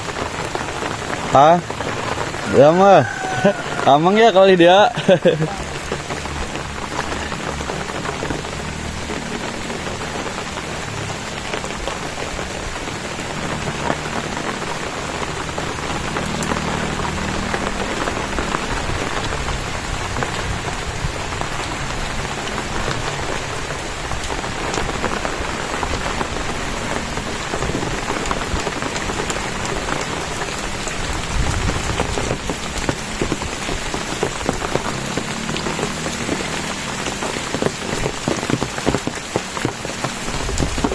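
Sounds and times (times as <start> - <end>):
rain drops pattering: 0.0 - 40.9.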